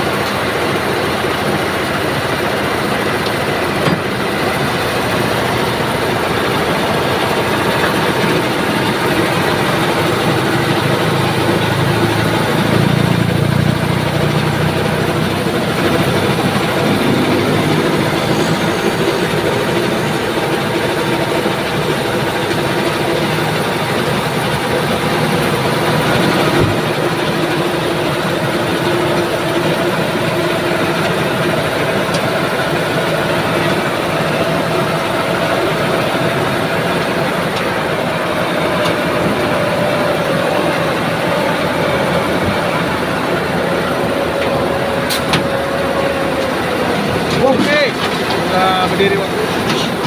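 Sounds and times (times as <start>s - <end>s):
diesel engine running under load: 0.0s - 50.0s
steady whine: 0.0s - 50.0s.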